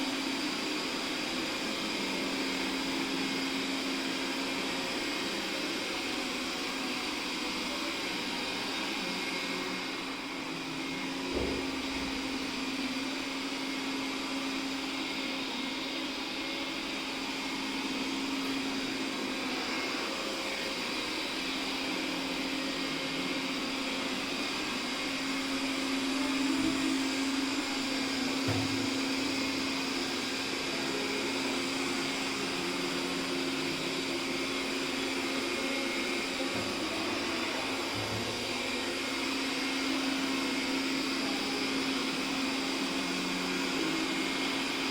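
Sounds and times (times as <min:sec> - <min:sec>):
robot vacuum cleaner whirring: 0:00.0 - 0:44.9.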